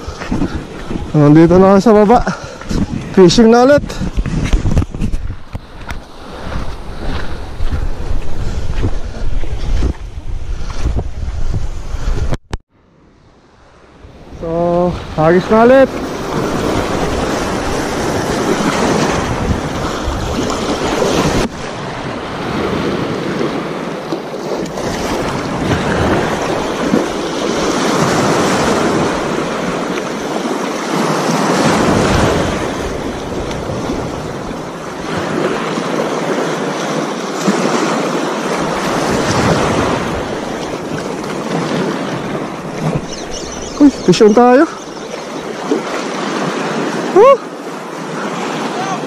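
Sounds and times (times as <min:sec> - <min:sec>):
wind buffeting microphone: 0:00.0 - 0:12.6, 0:13.7 - 0:49.0
small waves washing on shore: 0:00.0 - 0:49.0.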